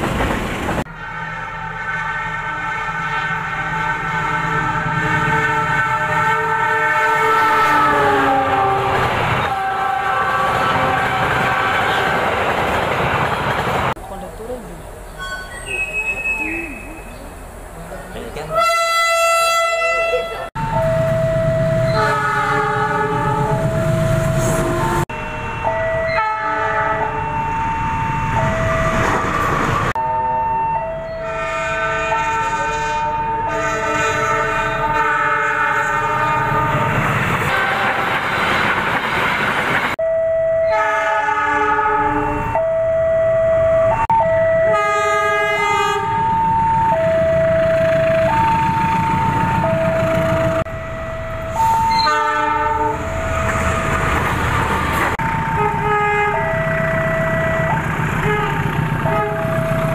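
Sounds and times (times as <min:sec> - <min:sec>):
trains rumbling on track: 0:00.0 - 0:59.9
two-tone locomotive horns: 0:00.9 - 0:12.4, 0:18.5 - 0:38.8, 0:40.0 - 0:54.2, 0:54.9 - 0:59.9.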